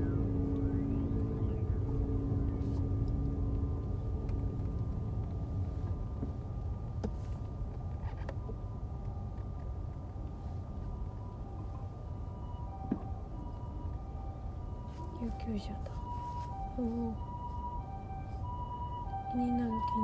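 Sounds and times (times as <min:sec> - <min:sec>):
car cabin road rumble: 0:00.0 - 0:20.0
distant ambulance siren: 0:00.0 - 0:20.0.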